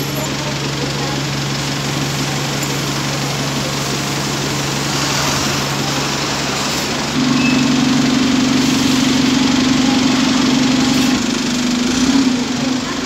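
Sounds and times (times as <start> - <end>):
bus engines idling: 0.0 - 13.0.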